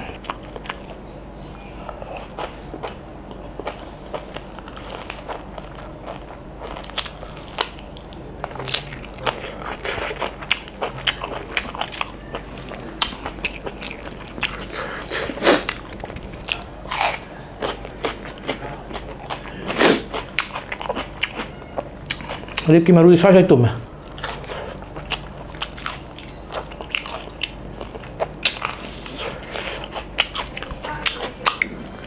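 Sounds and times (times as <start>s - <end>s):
man chewing with smacking sounds: 0.0s - 22.8s, 23.8s - 32.0s.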